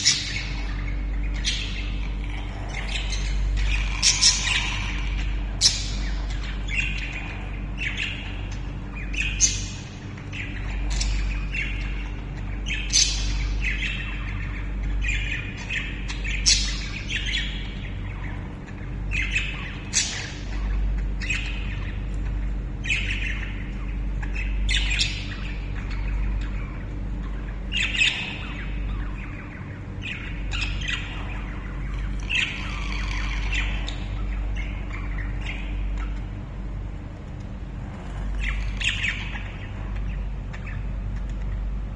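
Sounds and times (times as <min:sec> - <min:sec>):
budgerigars squawking and chirping: 0:00.0 - 0:41.9
low hum: 0:00.0 - 0:41.9.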